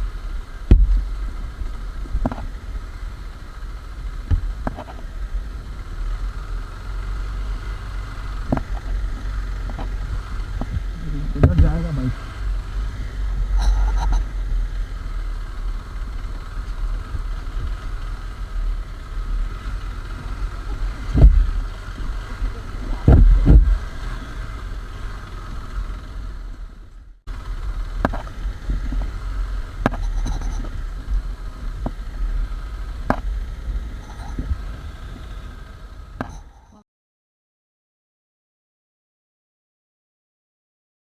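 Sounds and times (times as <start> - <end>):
wind rumble on microphone: 0.0 - 36.5
motorcycle engine running: 0.0 - 36.8
heavy thumps: 0.6 - 5.9, 7.0 - 26.6, 27.3 - 35.5.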